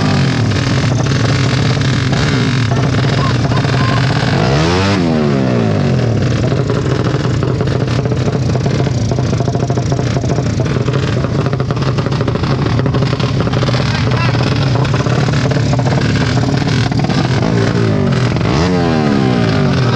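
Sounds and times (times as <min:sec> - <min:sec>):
motorcycle engines running: 0:00.0 - 0:19.9.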